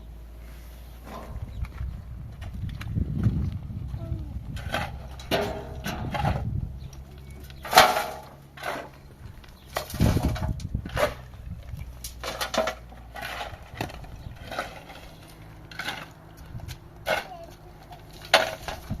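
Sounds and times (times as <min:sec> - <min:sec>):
knocks and clattering: 0:01.0 - 0:03.5, 0:04.5 - 0:19.0.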